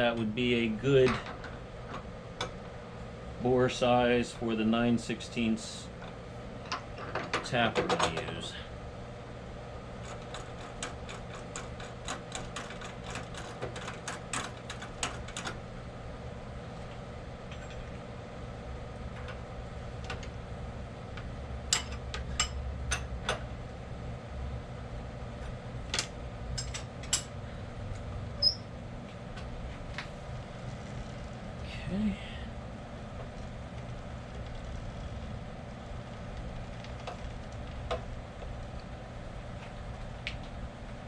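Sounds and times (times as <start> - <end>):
low machine hum: 0.0 - 41.0.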